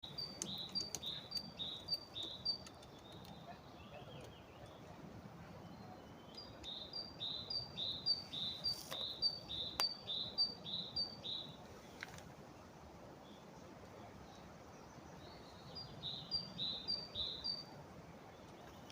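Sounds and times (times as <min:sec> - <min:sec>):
small bird singing: 0:00.0 - 0:11.6, 0:14.2 - 0:18.9.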